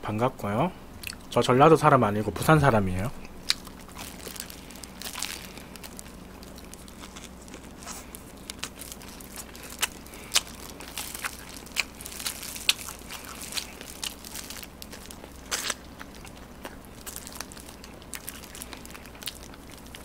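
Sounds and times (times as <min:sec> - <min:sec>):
plastic glove crinkling: 0:02.4 - 0:20.0
crunching fried chicken: 0:03.3 - 0:20.0.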